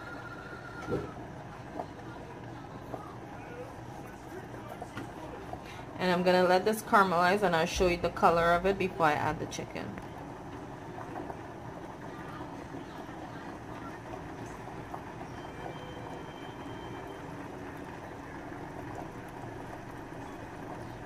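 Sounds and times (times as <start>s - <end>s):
oil and sugar sizzling: 1.5s - 21.0s.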